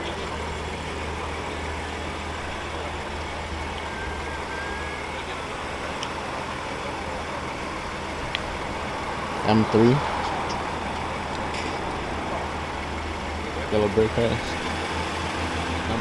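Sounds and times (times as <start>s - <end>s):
car engines idling: 0.0s - 16.0s.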